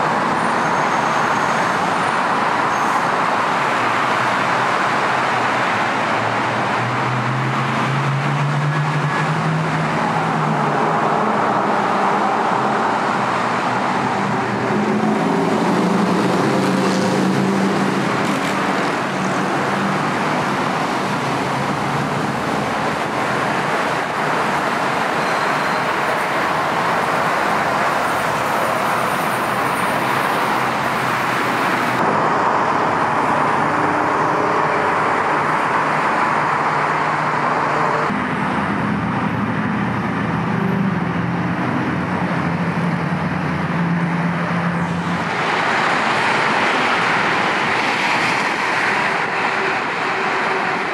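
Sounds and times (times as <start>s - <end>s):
freeway traffic noise: 0.0s - 50.9s
heavy vehicles engines passing: 0.0s - 50.9s.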